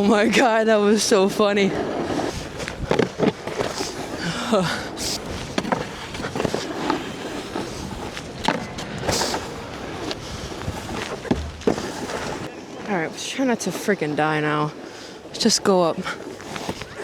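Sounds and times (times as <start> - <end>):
snowboard scraping on icy snow: 0.0 - 17.0.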